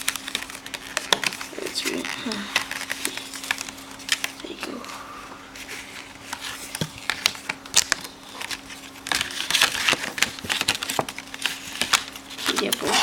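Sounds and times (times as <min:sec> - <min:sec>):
packaging clicks and crackles: 0:00.0 - 0:04.8, 0:06.3 - 0:13.0
packaging crinkling: 0:00.0 - 0:04.9, 0:05.5 - 0:13.0.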